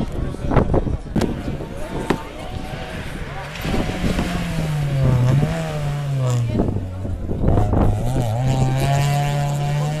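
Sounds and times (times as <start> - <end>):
rally car engine passing: 1.3 - 10.0.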